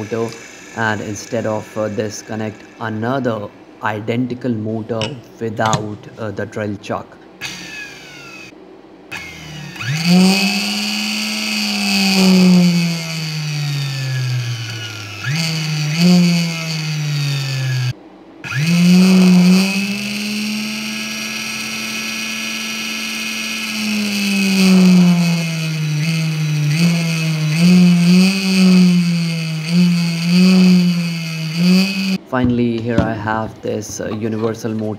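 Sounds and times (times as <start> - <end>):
electric motor whining: 0.0 - 3.6, 7.4 - 32.2.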